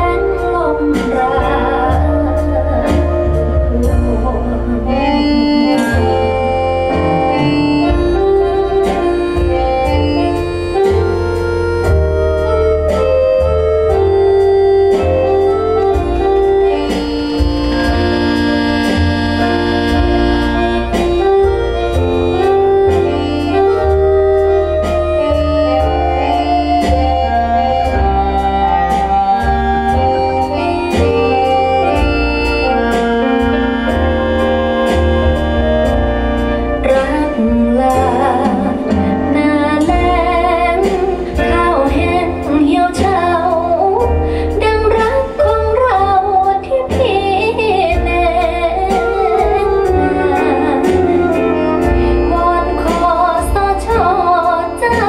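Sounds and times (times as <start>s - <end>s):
organ-like keyboard chords: 0.0s - 55.0s.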